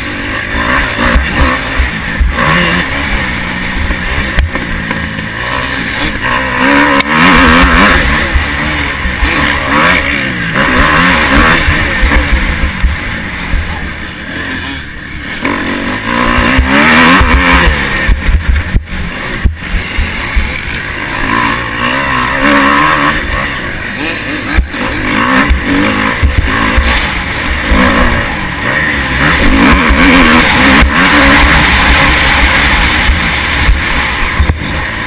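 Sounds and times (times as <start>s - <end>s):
motocross engine revving: 0.0s - 35.0s.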